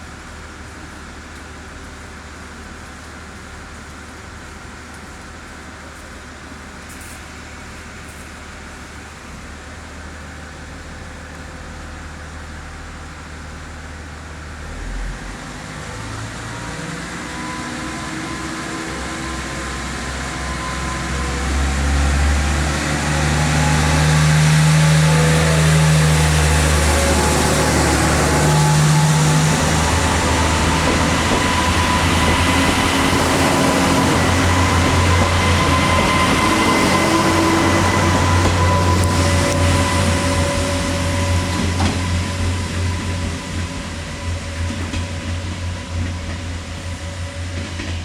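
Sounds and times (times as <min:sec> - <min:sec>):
train approaching: 0:00.0 - 0:48.0
low engine drone: 0:08.6 - 0:48.0.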